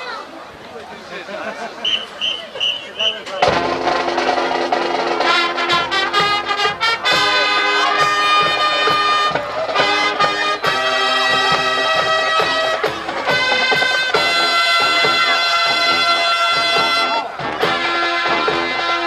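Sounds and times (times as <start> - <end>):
marching band percussion: 2.0 - 19.0
brass held chords: 3.4 - 19.0.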